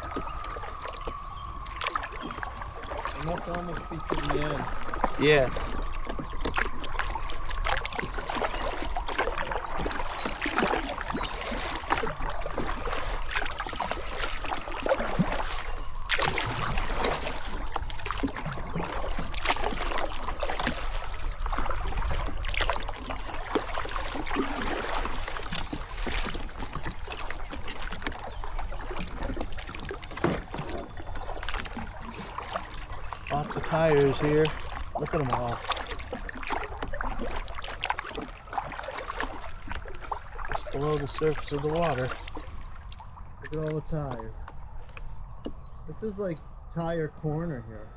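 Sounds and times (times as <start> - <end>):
paddle splashes: 0.0 - 46.6
water dripping and trickling: 0.0 - 47.0.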